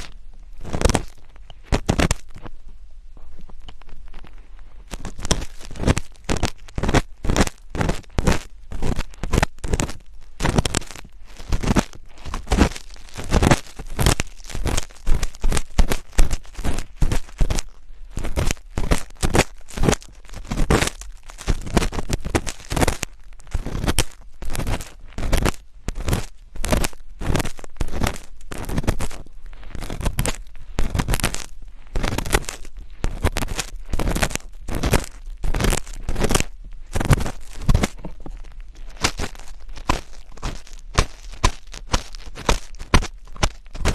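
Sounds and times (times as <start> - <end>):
close-miked scratching: 0.0 - 43.9.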